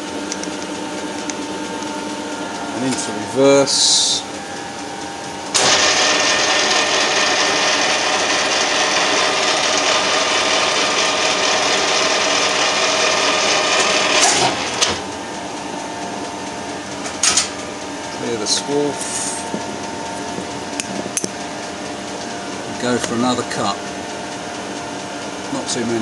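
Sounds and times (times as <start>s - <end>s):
lathe whirring with gear whine: 0.0s - 26.0s.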